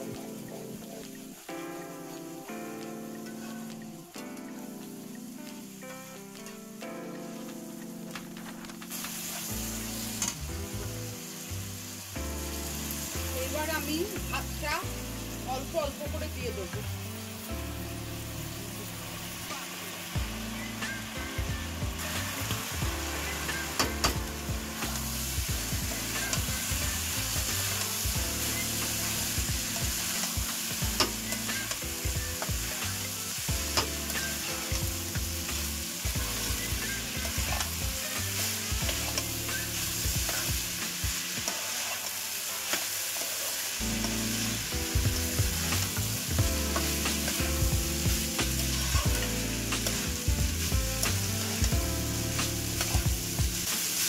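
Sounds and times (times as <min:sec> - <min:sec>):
oil sizzling in a wok: 0:00.0 - 0:54.0.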